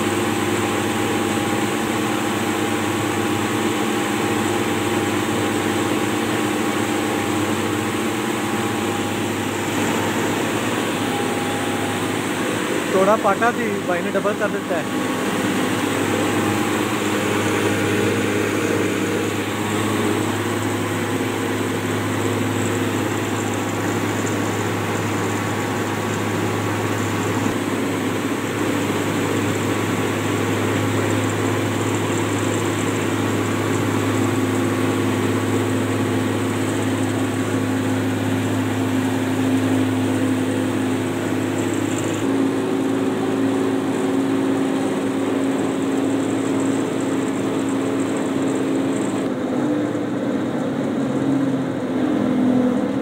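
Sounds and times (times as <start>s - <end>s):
rice huller humming: 0.0s - 50.2s.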